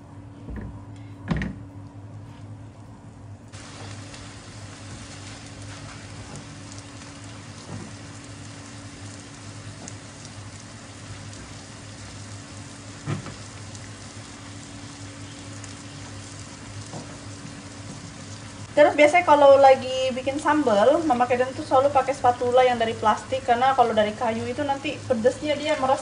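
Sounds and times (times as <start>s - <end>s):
chilli paste sizzling in oil: 3.6s - 26.0s.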